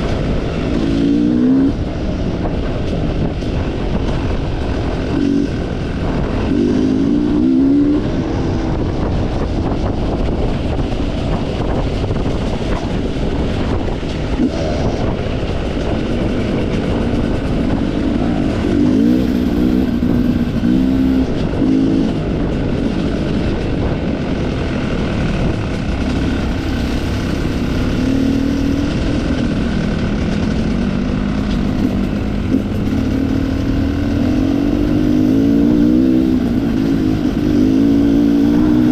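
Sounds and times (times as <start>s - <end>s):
low rumble: 0.0s - 38.9s
motorcycle engine revving: 0.0s - 38.9s.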